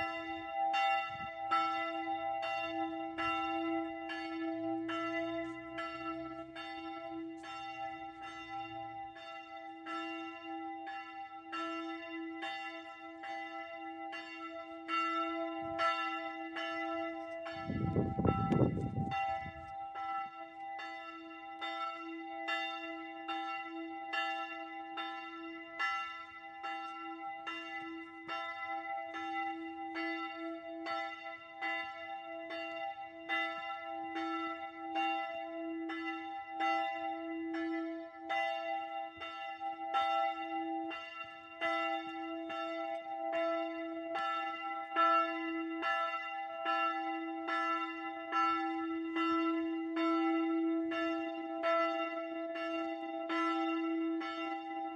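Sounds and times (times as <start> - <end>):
church bell ringing: 0.0 - 54.9.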